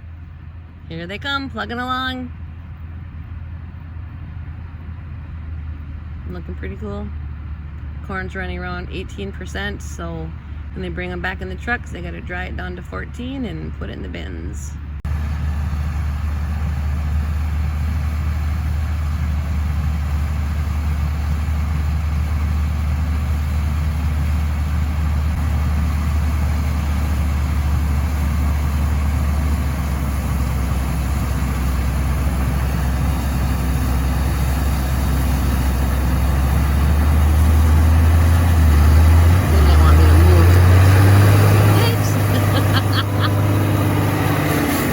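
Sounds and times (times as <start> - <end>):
vehicle engine idling: 0.0 - 44.9.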